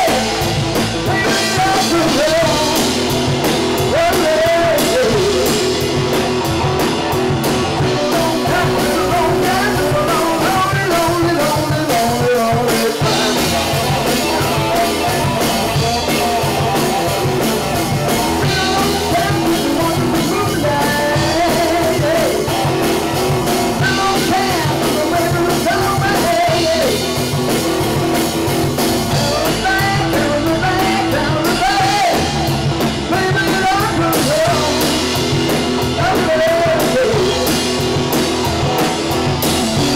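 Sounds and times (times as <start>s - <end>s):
live rock band playing: 0.0s - 39.9s
person singing lead vocals: 0.0s - 39.9s.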